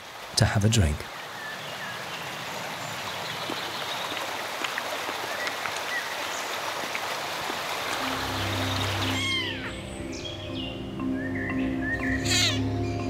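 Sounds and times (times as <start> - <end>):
stream water flowing: 0.0 - 12.8.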